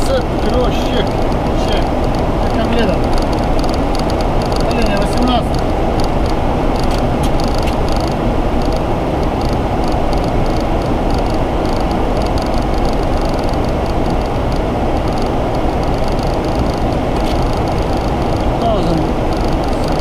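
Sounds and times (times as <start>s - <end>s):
jet engines humming: 0.0s - 20.0s
low rushing of air: 0.0s - 20.0s.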